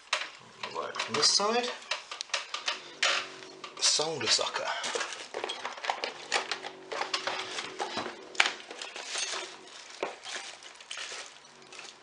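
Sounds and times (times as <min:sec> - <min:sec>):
metal tools clattering on a table: 0:00.1 - 0:12.0.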